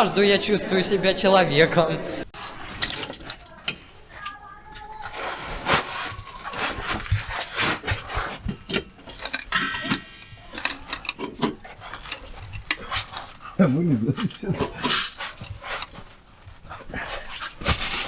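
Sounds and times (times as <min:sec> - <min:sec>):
metallic clinks and knocks: 0:02.4 - 0:18.0
ringing squeak: 0:02.4 - 0:18.0.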